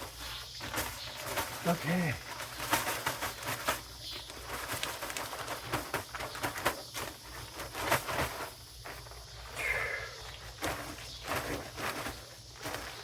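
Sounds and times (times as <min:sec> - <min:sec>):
crunching and scraping in wet gravel: 0:00.0 - 0:13.0.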